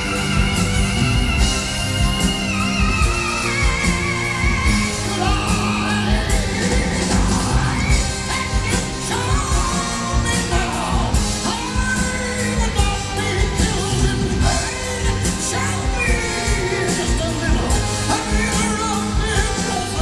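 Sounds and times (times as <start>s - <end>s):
live rock band music: 0.0s - 20.0s
person singing: 0.0s - 20.0s.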